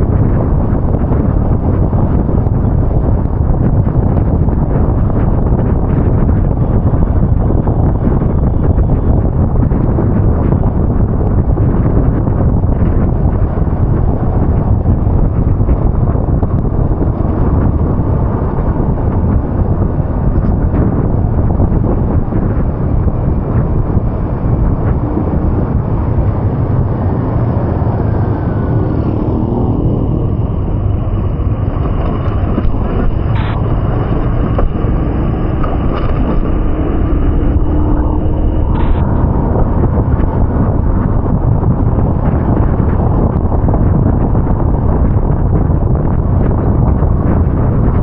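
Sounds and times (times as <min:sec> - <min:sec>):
vehicle and road noise: 0:00.0 - 0:48.0.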